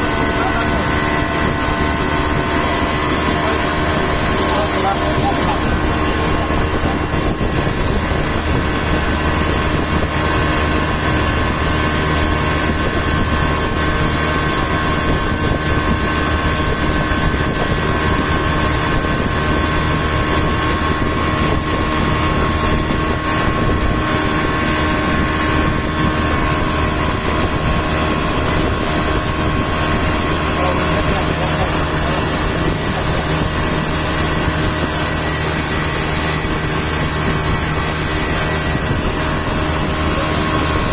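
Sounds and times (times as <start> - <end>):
motorboat engine drone: 0.0 - 40.9.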